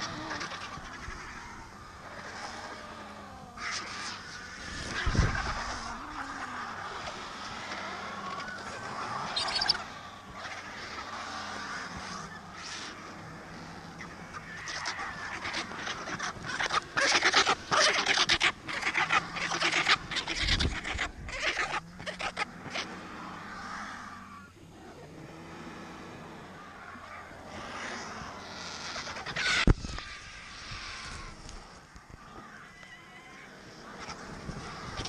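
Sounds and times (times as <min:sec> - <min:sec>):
vultures making harsh rasping calls: 0:00.0 - 0:35.0.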